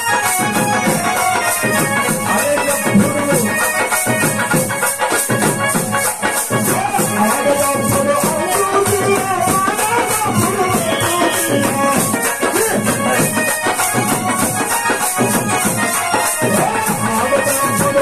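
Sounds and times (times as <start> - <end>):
jingling hand percussion: 0.0 - 18.0.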